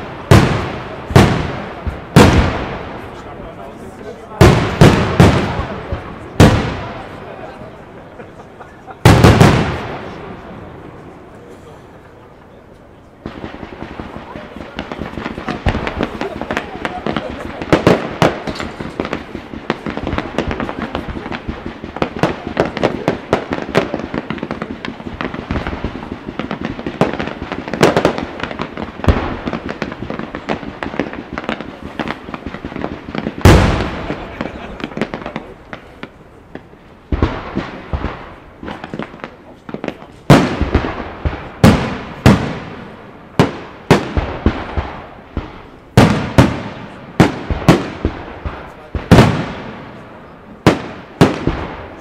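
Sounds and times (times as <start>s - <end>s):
loud firework bang: 0.0s - 3.3s, 4.3s - 7.1s, 9.0s - 10.2s, 13.2s - 49.8s
fireworks crackling pops: 0.0s - 52.0s.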